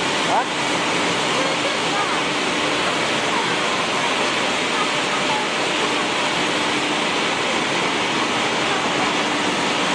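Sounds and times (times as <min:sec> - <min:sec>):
pellet machine running: 0:00.0 - 0:09.9.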